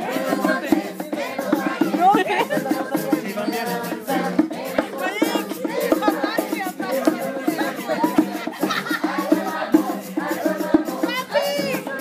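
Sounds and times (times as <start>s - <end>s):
percussion beat: 0.0s - 12.0s
upbeat latin music with voices: 0.0s - 12.0s.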